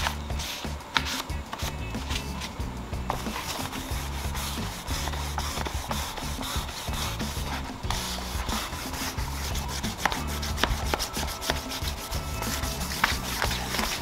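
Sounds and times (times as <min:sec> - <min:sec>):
sanding pad rubbing wood: 0:00.0 - 0:14.0.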